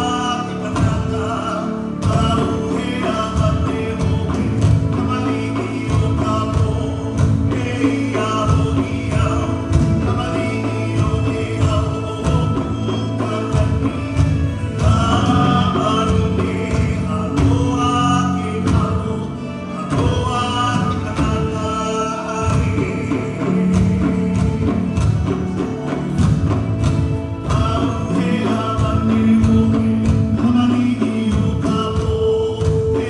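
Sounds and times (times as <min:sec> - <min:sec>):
singing over percussive beat: 0:00.0 - 0:33.0.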